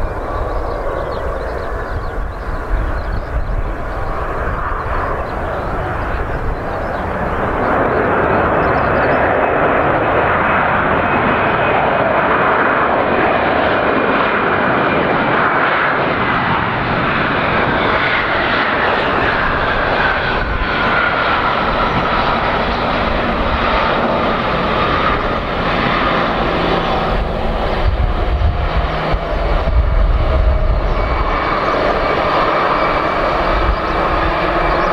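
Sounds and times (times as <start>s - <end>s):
deep aircraft rumble: 0.0s - 34.9s
jet engines whining: 0.0s - 34.9s.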